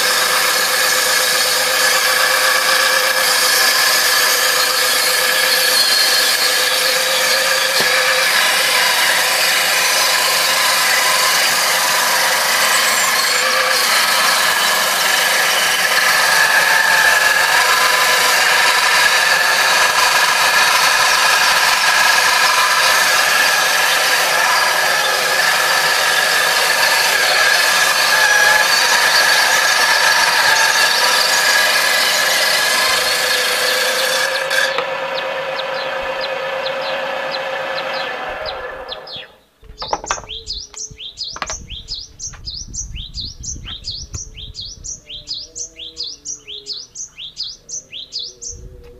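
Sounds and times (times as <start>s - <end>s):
table saw whining: 0.0s - 40.6s.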